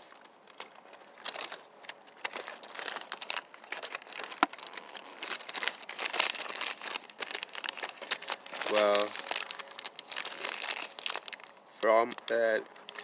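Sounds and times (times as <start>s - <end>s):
plastic and fabric crinkling: 0.0s - 13.0s.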